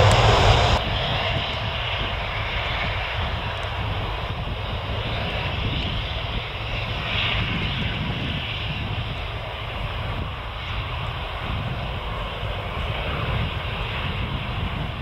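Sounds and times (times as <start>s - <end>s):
jet engines rumbling with hiss: 0.0s - 15.0s.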